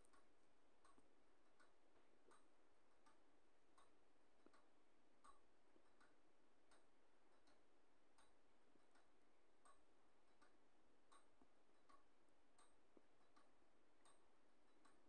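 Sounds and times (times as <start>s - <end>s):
faint ticks: 0.0s - 15.0s.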